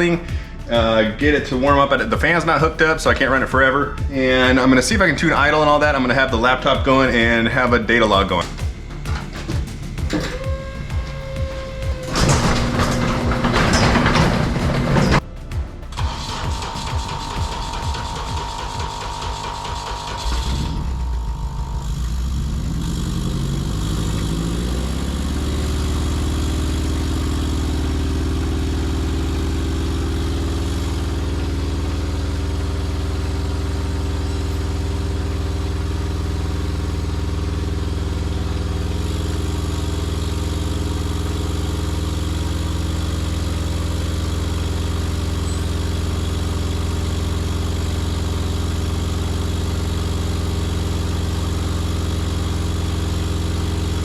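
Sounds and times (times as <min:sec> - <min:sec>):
car engine starting and idling: 0:00.0 - 0:54.0.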